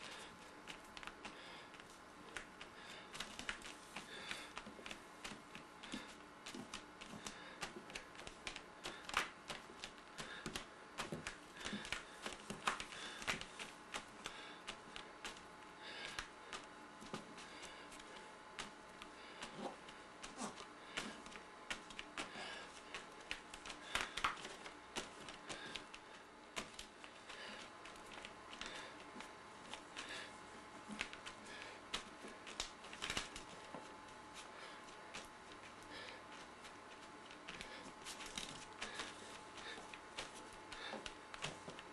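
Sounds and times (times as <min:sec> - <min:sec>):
soft rustling: 0:00.0 - 0:41.9.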